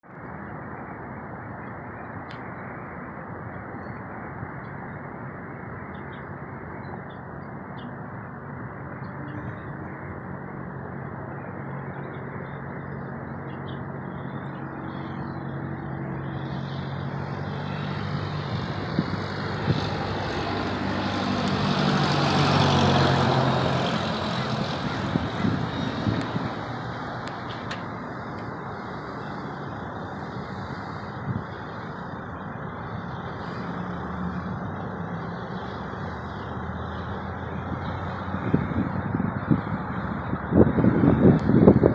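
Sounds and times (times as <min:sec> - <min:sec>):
propeller plane flying past: 0:03.5 - 0:41.9.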